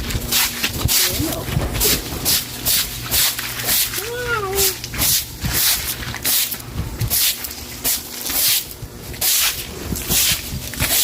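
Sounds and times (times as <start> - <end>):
broom sweeping a wet floor: 0.0 - 4.2, 4.9 - 11.0.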